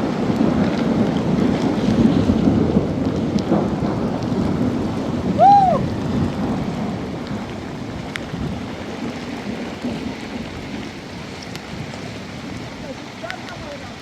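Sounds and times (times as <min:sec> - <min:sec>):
heavy rain: 0:00.0 - 0:14.0
thunder rumbling: 0:00.0 - 0:14.0.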